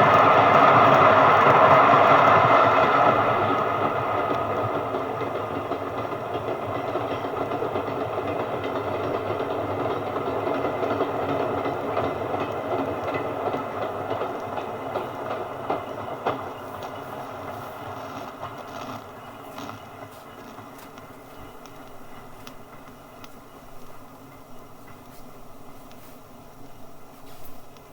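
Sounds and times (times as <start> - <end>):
train running on track: 0.0 - 27.9
wheels clicking over rail joints: 0.0 - 27.9.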